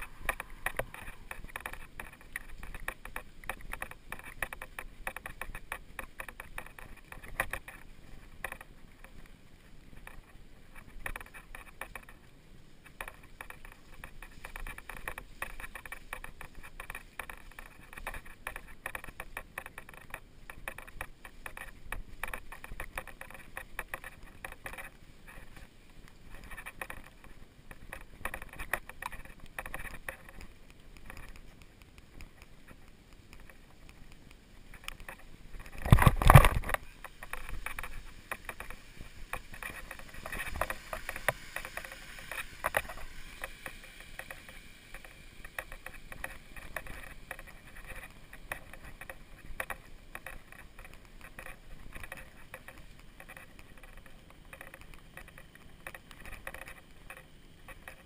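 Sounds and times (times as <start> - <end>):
unicycle tyre clicks and knocks: 0.0 - 58.0.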